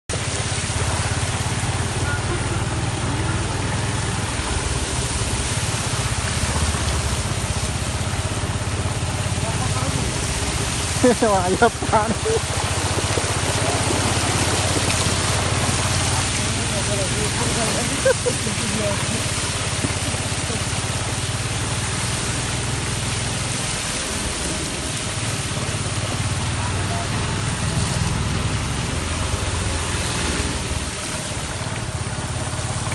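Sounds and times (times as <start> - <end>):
rain hiss: 0.1 - 32.9
vehicle engine humming: 0.1 - 32.9.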